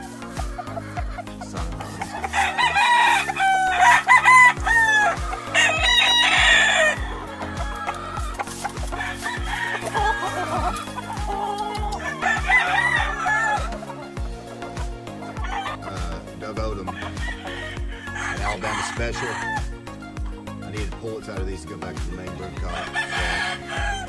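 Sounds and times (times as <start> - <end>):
roosters crowing: 0.0 - 20.6, 22.5 - 24.0
background music with beat: 0.0 - 24.0
hens clucking: 0.0 - 24.0.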